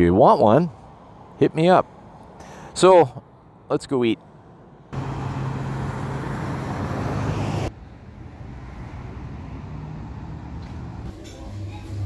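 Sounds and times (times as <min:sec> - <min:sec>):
quiet traffic noise: 0:00.0 - 0:12.0
vehicle engine and tyre noise: 0:00.0 - 0:12.0.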